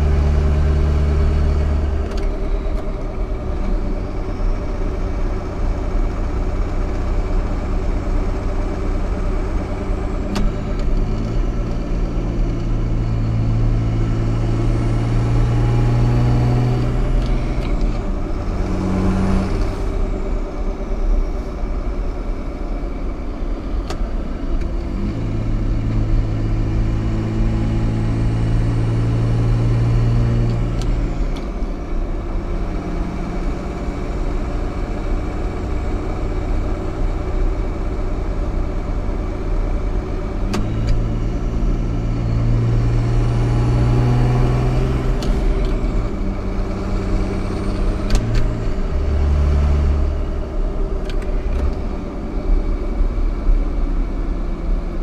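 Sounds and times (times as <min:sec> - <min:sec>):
diesel engine revving through gears: 0:00.0 - 0:55.0.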